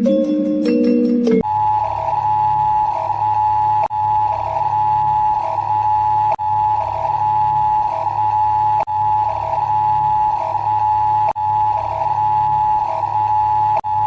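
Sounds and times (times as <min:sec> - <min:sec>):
low drone: 0:01.4 - 0:14.0.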